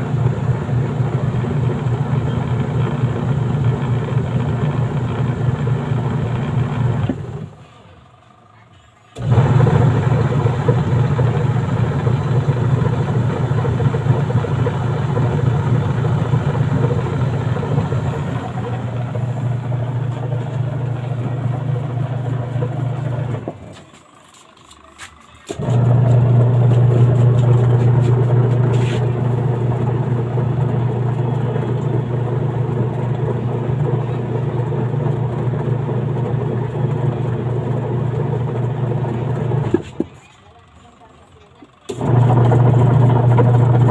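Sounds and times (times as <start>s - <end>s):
washing machine motor humming: 0.0s - 8.3s, 9.1s - 40.1s, 41.8s - 43.9s.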